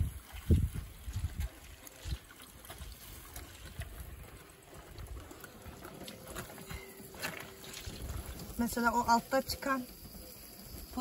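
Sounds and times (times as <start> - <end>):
juice trickling and dripping: 0.0 - 11.0.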